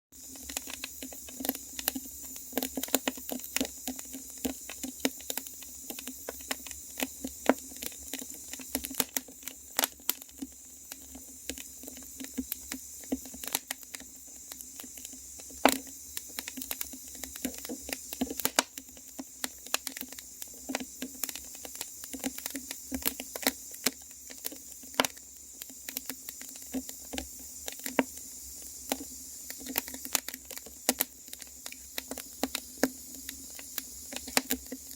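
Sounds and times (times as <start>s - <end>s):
fire crackling and popping: 0.2s - 34.9s.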